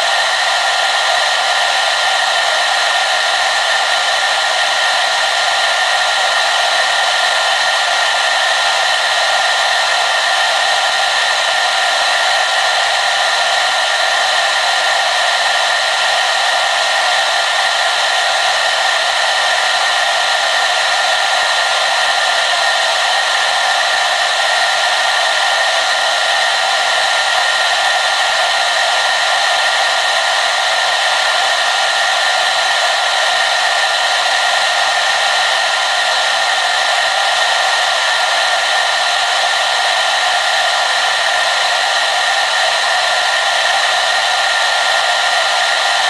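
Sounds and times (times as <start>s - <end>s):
hair dryer running: 0.0s - 46.0s.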